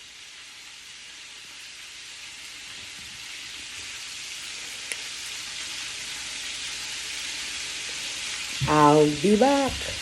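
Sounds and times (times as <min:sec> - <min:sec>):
chicken frying in hot oil: 0:00.0 - 0:10.0.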